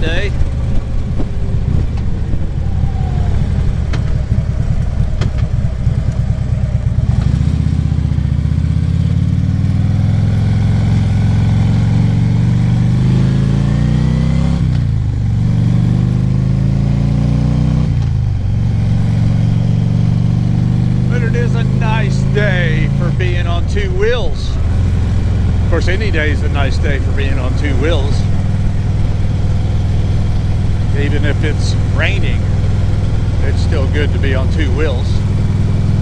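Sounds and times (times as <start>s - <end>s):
motorcycle engine rumbling: 0.0s - 36.0s.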